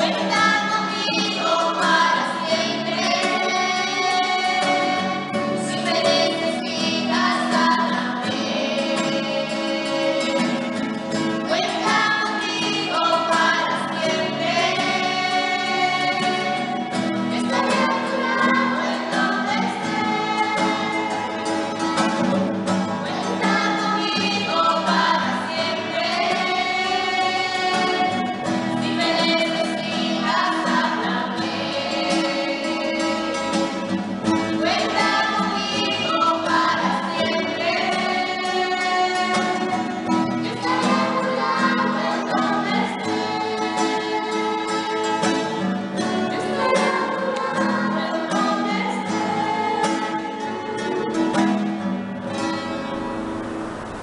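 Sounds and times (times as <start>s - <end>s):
women and girls singing: 0.0s - 22.3s, 23.0s - 51.8s
acoustic guitar: 0.0s - 54.0s.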